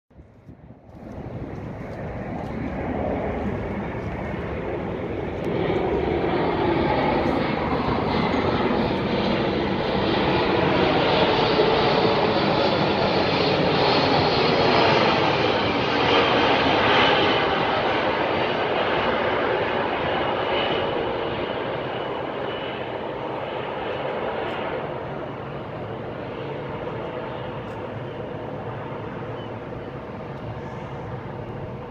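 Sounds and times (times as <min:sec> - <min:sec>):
jet aircraft flying over: 0:00.2 - 0:31.9.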